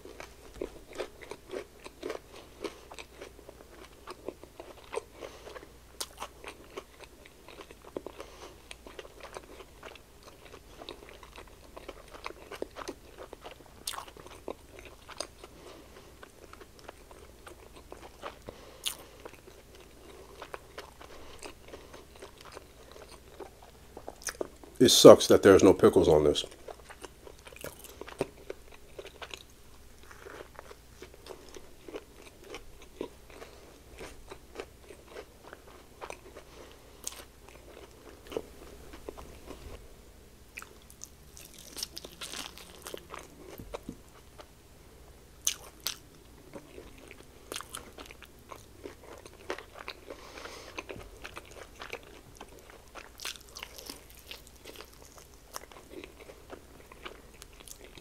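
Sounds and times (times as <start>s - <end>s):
crunching and chewing fried chicken: 0.0s - 39.8s, 40.5s - 44.5s, 45.4s - 58.0s.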